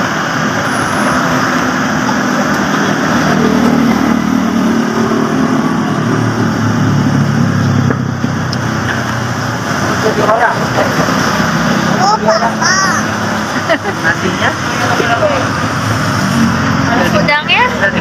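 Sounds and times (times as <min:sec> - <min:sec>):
road traffic: 0:00.0 - 0:18.0
vehicle engine running: 0:00.0 - 0:18.0.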